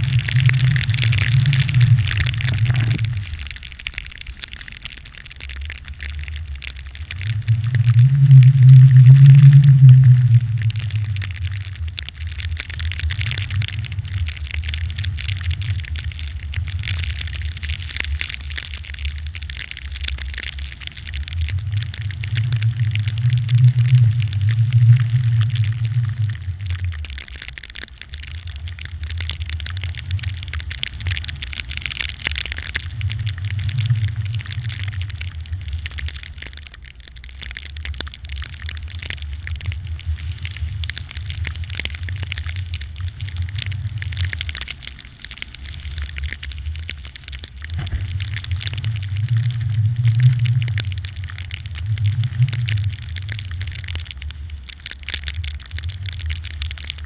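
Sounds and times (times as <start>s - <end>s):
wind rumbling on microphone: 0.0s - 27.3s, 28.2s - 36.7s, 37.7s - 57.0s.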